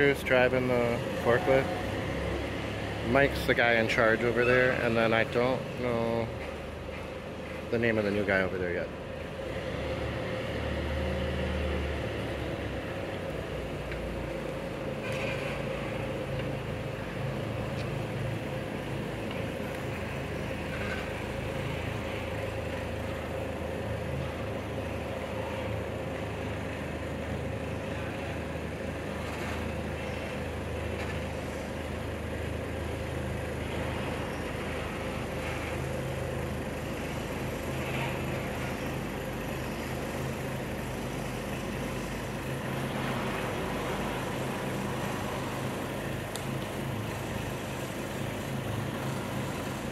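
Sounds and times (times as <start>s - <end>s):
forklift engine rumbling: 0.0s - 49.9s.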